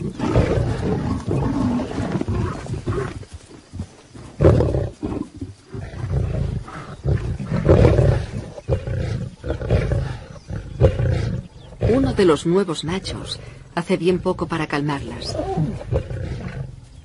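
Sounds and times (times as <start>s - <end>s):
lions snarling and roaring: 0.0s - 17.0s.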